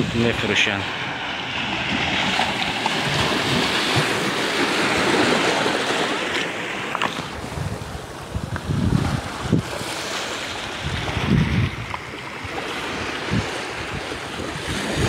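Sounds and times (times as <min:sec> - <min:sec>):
sea waves on stony shore: 0:00.0 - 0:15.0.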